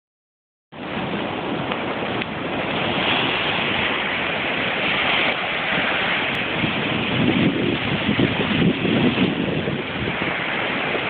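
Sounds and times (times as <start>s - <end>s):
sea surf breaking: 0.7s - 11.0s
wind buffeting microphone: 0.8s - 11.0s.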